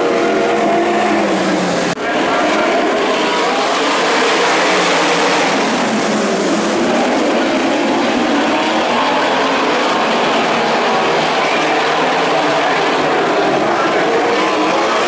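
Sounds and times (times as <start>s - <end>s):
racing car engines roaring: 0.0s - 15.0s.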